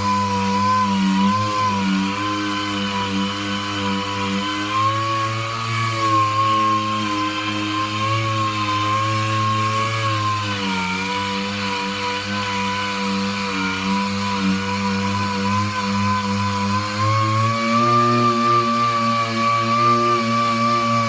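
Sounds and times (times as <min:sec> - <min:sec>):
electric power tool whining: 0:00.0 - 0:21.0.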